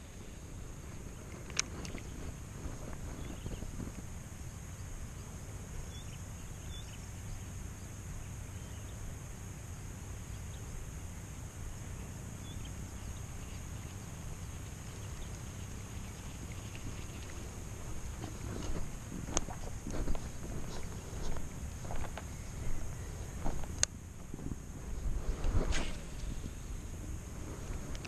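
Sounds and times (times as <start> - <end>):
constant high hiss: 0.0 - 28.0
low wind rumble: 0.0 - 28.0.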